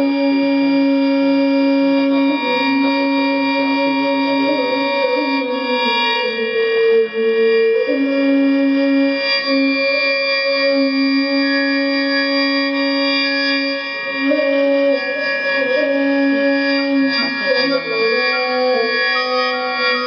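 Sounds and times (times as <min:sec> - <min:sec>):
flute playing slow melody: 0:00.0 - 0:20.0.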